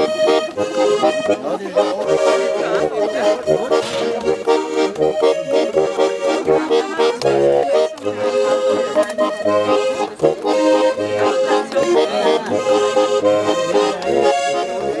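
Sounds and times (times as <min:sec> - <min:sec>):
accordion music: 0:00.0 - 0:15.0.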